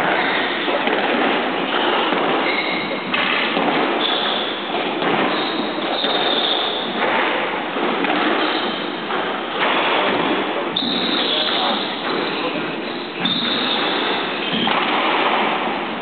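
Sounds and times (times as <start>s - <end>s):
shoes squeaking on court floor: 0.0s - 7.3s, 8.1s - 15.0s
loud din in hall: 0.0s - 16.0s.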